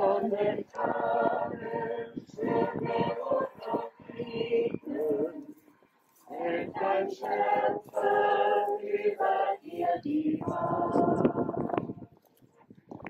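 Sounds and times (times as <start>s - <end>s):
choir singing unaccompanied: 0.0s - 5.6s, 6.2s - 12.0s.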